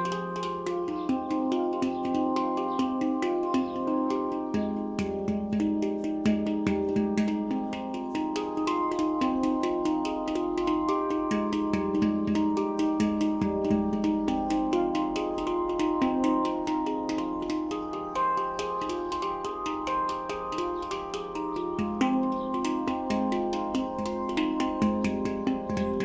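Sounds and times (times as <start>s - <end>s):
handpan notes ringing: 0.0s - 26.0s.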